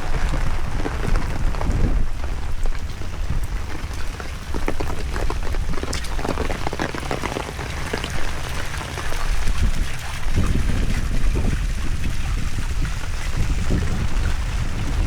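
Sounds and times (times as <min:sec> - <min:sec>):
heavy rain drops ticking: 0:00.0 - 0:15.0
wind rumble on microphone: 0:00.0 - 0:15.0.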